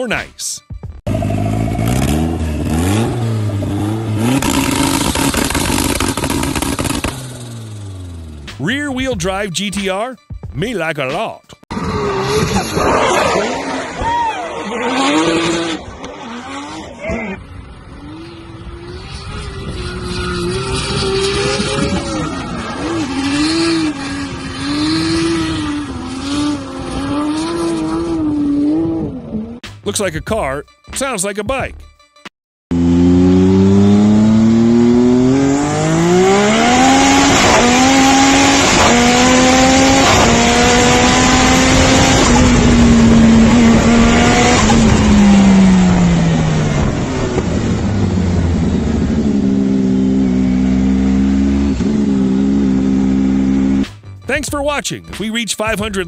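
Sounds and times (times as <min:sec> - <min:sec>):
car engine revving: 0:01.1 - 0:09.1, 0:11.7 - 0:29.6, 0:32.7 - 0:56.0.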